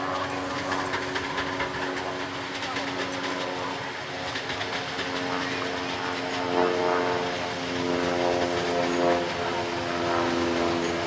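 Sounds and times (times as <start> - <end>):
train coaches rolling on rails: 0.0 - 11.0.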